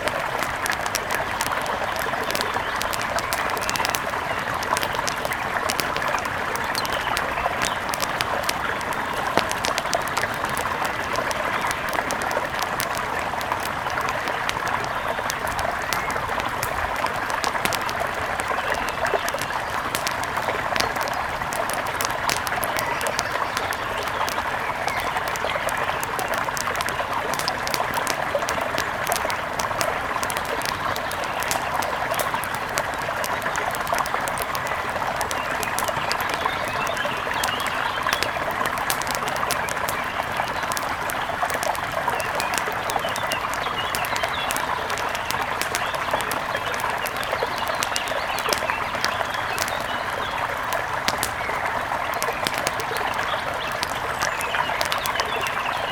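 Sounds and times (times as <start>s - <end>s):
river water flowing: 0.0s - 55.9s
wood fire crackling: 0.0s - 55.9s.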